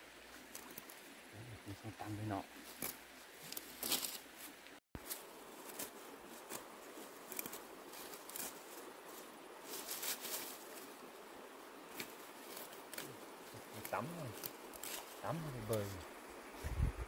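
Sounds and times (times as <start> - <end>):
leafy plants rustling and crackling: 0.0 - 17.0.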